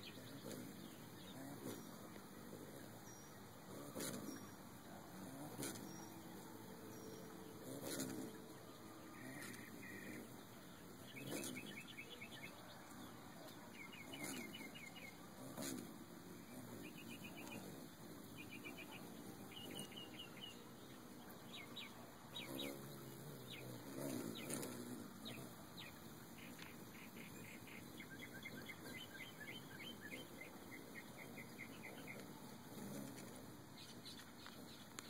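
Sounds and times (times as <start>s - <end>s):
faint bird chirping: 0.0s - 35.0s
hummingbird wings whirring: 0.0s - 35.0s.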